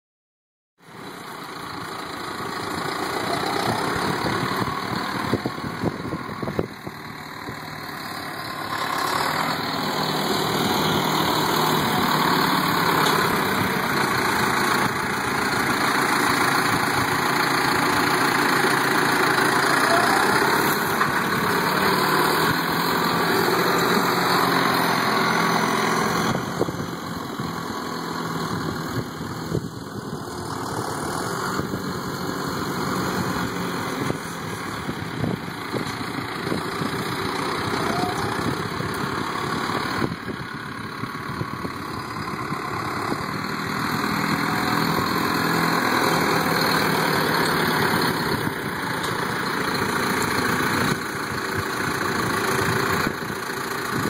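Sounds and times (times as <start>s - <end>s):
tractor diesel engine running: 0.8s - 54.0s.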